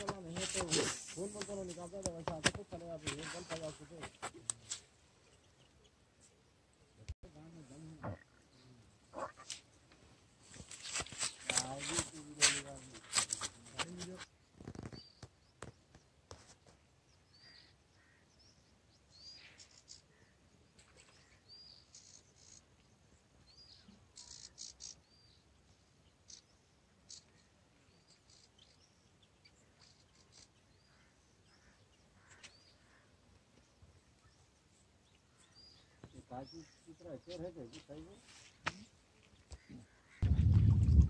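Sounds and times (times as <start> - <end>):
faint bird chirping: 0.2 - 10.4, 13.6 - 41.0.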